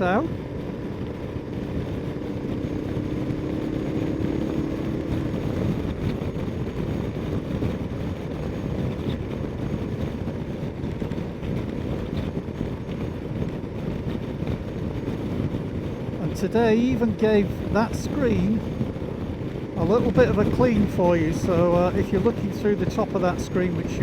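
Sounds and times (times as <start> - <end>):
motorcycle engine running: 0.0 - 24.0
road noise: 0.0 - 24.0
wind noise: 0.0 - 24.0.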